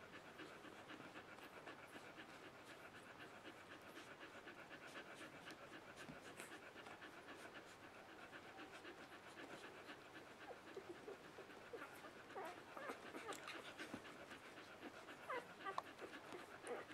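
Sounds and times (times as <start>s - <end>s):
dog panting: 0.0s - 16.9s.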